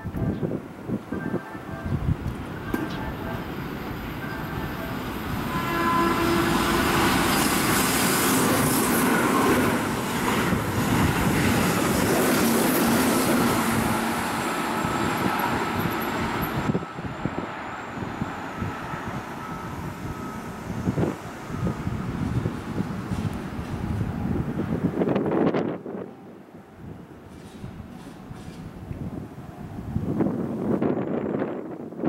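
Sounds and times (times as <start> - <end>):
distant train rumble: 0.0 - 32.0
express train passing at speed: 0.0 - 32.0.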